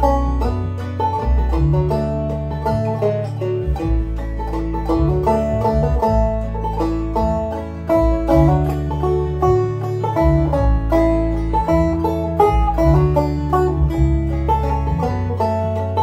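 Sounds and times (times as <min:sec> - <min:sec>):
backing track bass notes: 0:00.0 - 0:16.0
banjo folk melody: 0:00.0 - 0:16.0.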